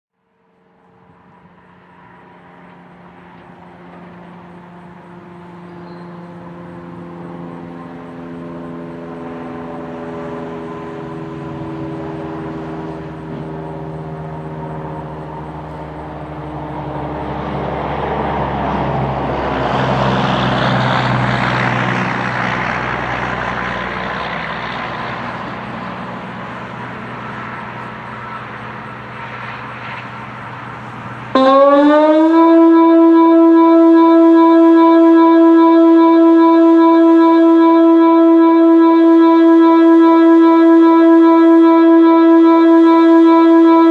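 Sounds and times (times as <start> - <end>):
passing engine drone: 0.3 - 43.9.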